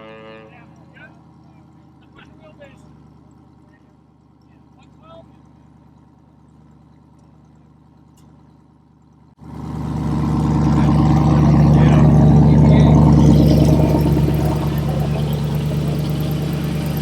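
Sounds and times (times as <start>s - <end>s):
vehicle engine under load: 0.0s - 17.0s.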